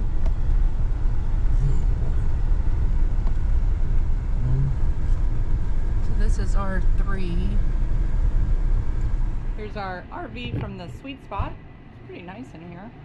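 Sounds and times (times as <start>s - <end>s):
vehicle engine and tyres rumbling: 0.0s - 12.9s.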